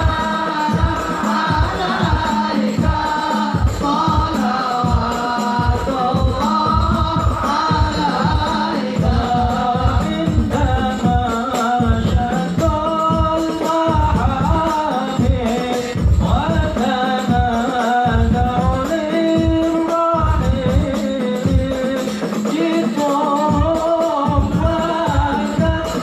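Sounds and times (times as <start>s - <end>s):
frame drums beating: 0.0s - 26.0s
men singing together: 0.0s - 26.0s.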